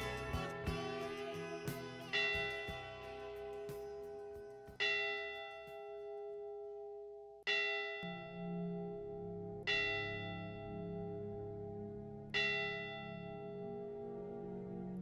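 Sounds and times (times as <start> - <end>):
church bell tolling: 0.0 - 15.0
low steady tone: 0.0 - 15.0.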